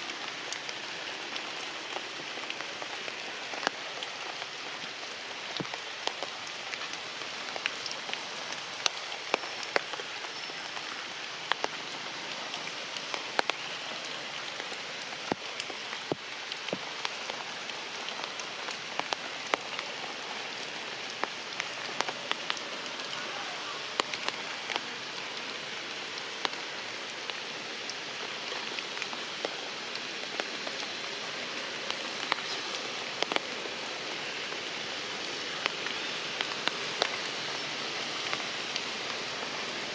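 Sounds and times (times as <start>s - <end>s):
heavy rain falling: 0.0s - 39.9s
sharp raindrops striking close by: 0.0s - 39.9s.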